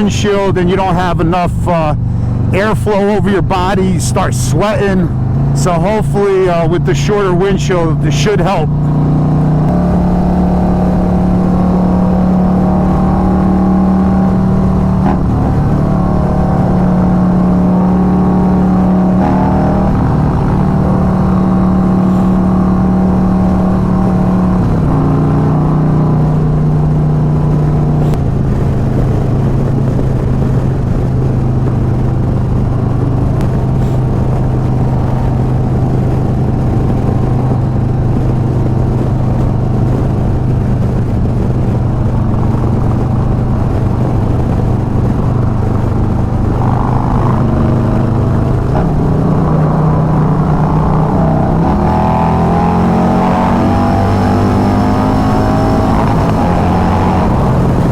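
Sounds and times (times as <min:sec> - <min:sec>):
motorcycle engine cruising: 0:00.0 - 0:57.9
wind and road noise: 0:00.0 - 0:57.9.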